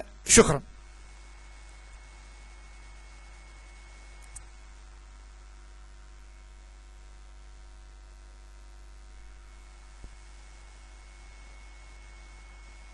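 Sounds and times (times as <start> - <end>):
electrical mains hum: 0.0 - 12.9.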